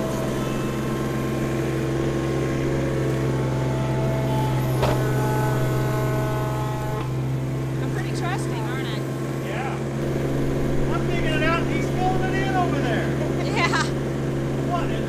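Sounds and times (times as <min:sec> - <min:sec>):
excavator diesel engine running: 0:00.0 - 0:15.0
high hydraulic whine: 0:00.0 - 0:15.0.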